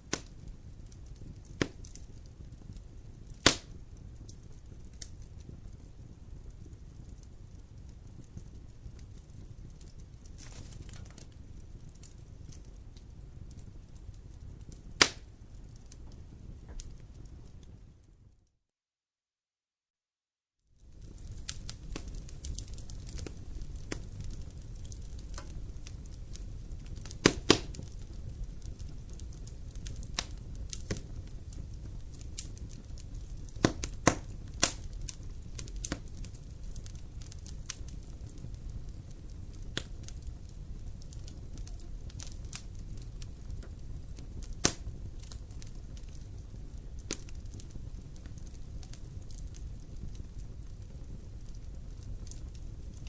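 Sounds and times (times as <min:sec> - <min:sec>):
fire pops and snaps: 0:00.0 - 0:18.3, 0:20.8 - 0:53.0
wood fire crackling: 0:00.0 - 0:18.5, 0:20.7 - 0:53.0.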